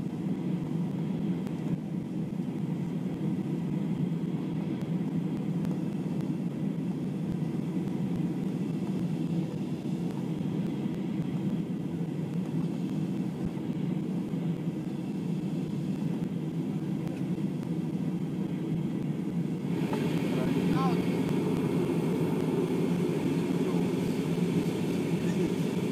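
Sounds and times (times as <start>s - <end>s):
jet engine drone inside cabin: 0.0s - 25.9s.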